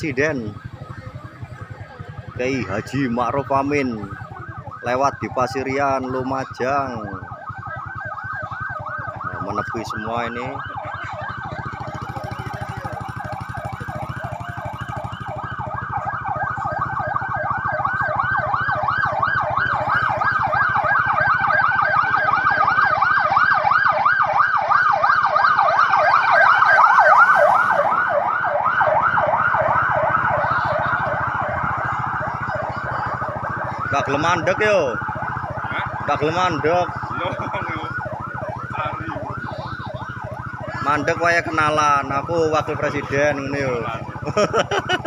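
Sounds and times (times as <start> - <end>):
police sirens warbling: 0.0 - 45.0.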